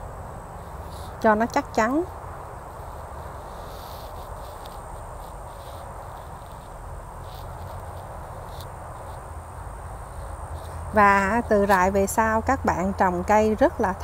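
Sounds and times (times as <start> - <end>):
high-pitched insect trill: 0.0 - 14.0
low rumble and hiss: 0.0 - 14.0.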